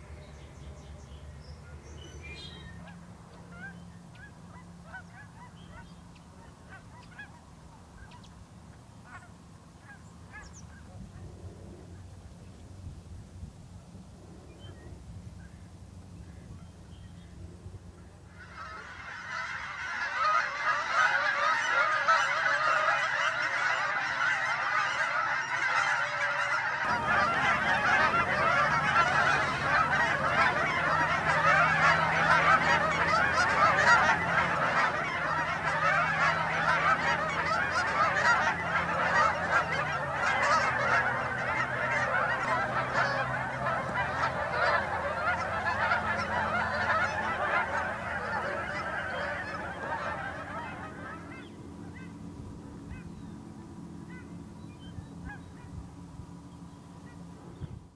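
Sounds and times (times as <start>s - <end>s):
flock of geese honking: 0.0s - 12.1s, 18.0s - 55.9s.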